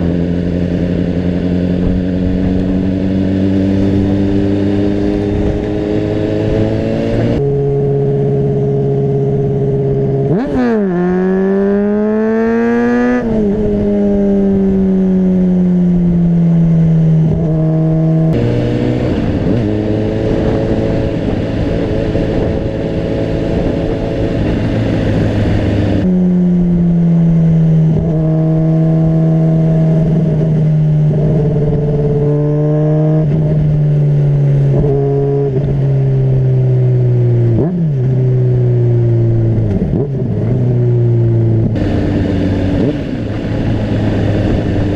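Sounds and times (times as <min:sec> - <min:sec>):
motorcycle engine revving: 0:00.0 - 0:44.9
wind noise on microphone: 0:00.0 - 0:44.9.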